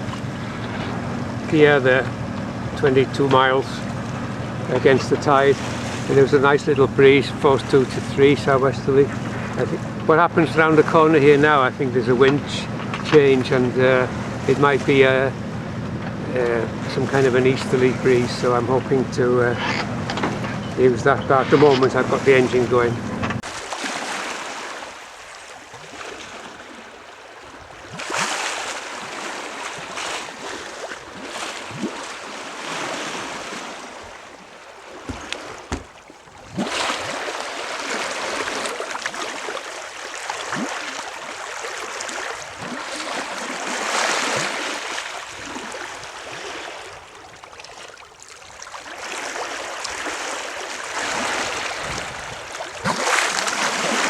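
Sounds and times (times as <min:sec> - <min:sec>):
water splashing along hull: 0:00.0 - 0:54.0.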